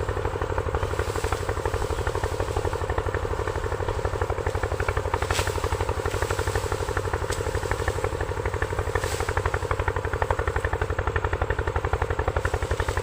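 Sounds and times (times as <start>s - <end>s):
motor engine chugging: 0.0s - 13.0s.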